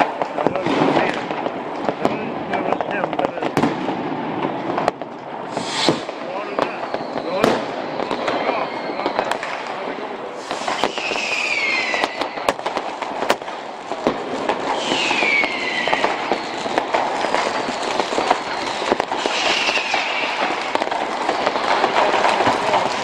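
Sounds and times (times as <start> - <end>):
fireworks crackling and banging: 0.0 - 23.0
whistling fireworks: 0.0 - 23.0.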